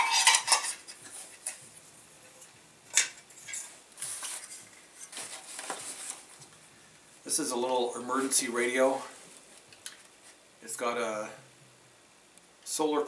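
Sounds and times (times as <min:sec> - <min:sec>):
rustling: 0:00.0 - 0:10.5.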